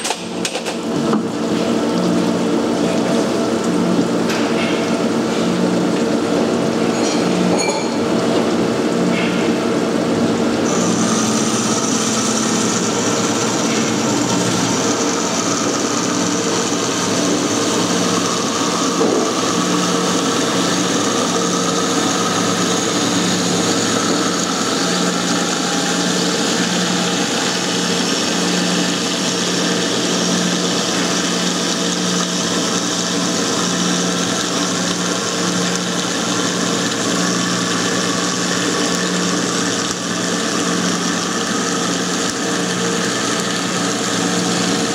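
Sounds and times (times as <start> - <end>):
band saw machine hum: 0.0 - 44.9.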